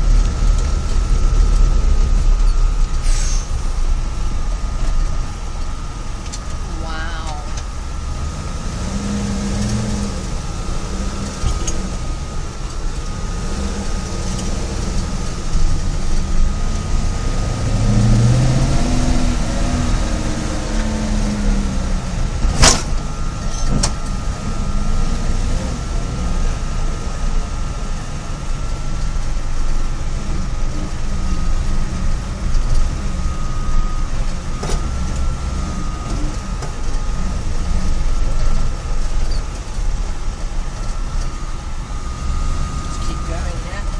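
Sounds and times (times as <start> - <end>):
engine fan whirring: 0.0 - 43.9
truck engine running: 0.0 - 43.9.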